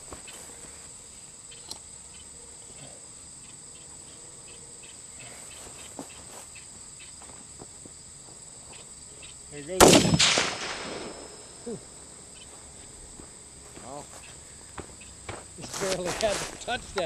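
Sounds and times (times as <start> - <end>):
crickets and insects chirping: 0.0 - 17.0.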